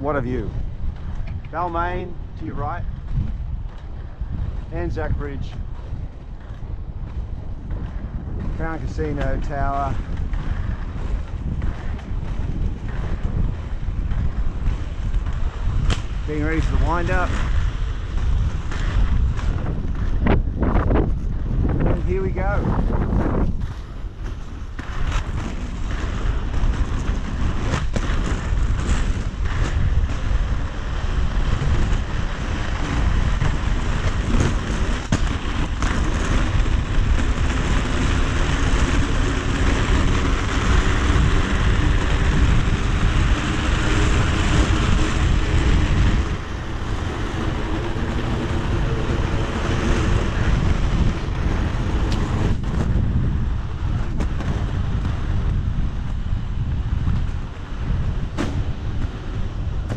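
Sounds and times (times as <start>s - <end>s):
skate wheels rolling on asphalt: 0.0s - 59.9s
wind buffeting microphone: 0.0s - 59.9s.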